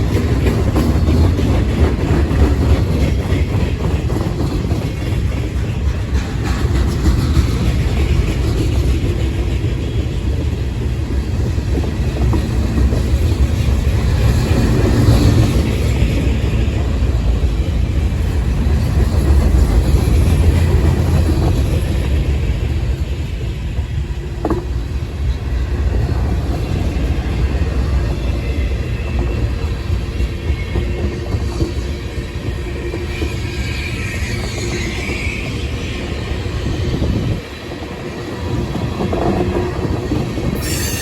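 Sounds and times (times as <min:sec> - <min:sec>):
freight train rumbling on rails: 0:00.0 - 0:41.0.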